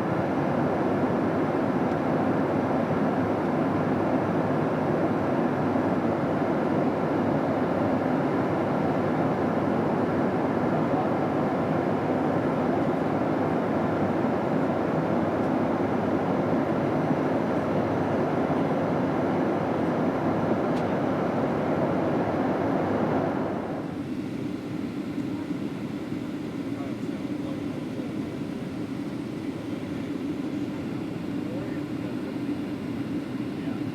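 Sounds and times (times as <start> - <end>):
airplane cabin roar: 0.0 - 33.9.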